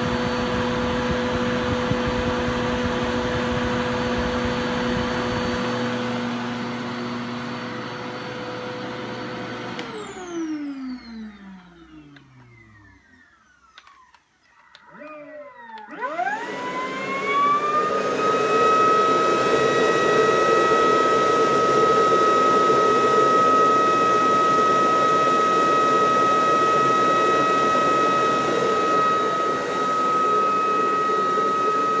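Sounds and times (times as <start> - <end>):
vacuum cleaner motor whine: 0.0 - 32.0.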